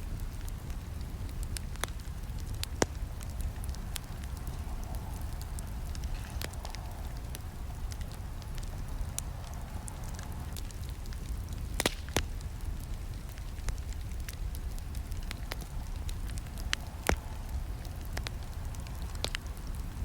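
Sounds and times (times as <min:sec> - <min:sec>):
fire crackles and pops: 0:00.0 - 0:20.0
flames rumbling: 0:00.0 - 0:20.0.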